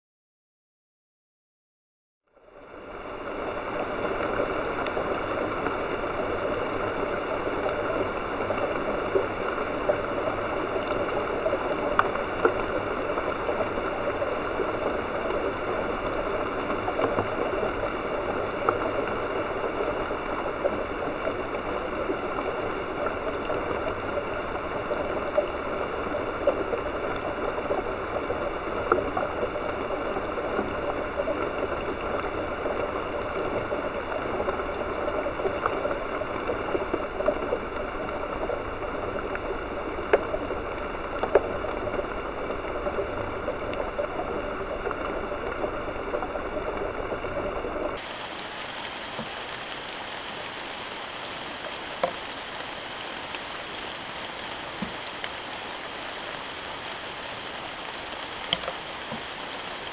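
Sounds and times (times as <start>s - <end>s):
rain falling on leaves: 2.9s - 47.1s, 47.8s - 59.9s.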